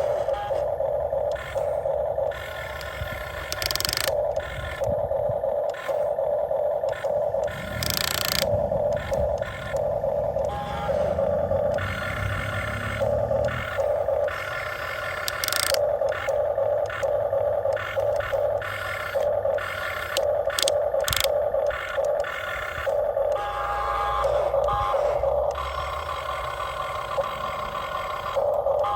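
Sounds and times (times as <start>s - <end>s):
small electric motors whining: 0.0s - 28.9s.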